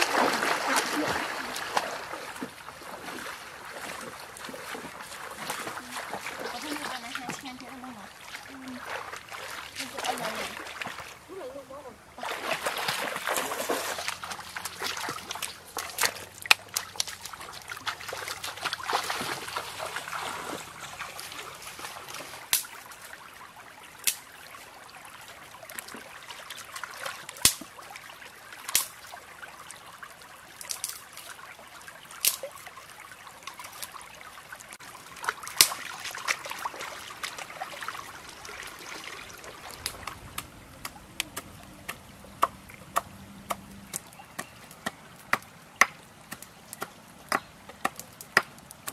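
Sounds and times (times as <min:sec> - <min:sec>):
feet wading in water: 0:00.0 - 0:47.8
stream water trickling: 0:00.0 - 0:48.9.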